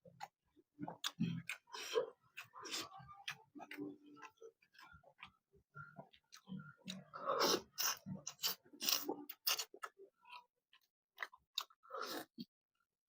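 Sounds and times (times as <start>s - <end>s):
chewing and mouth smacks: 0.2s - 12.3s.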